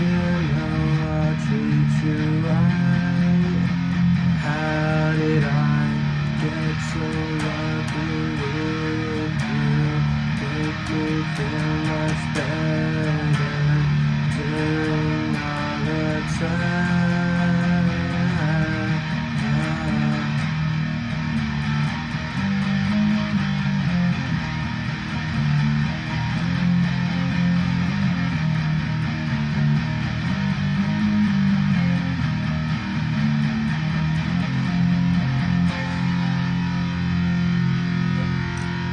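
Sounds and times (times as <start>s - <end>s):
plucked guitar melody: 0.0s - 38.9s
steady low guitar notes: 0.0s - 38.9s.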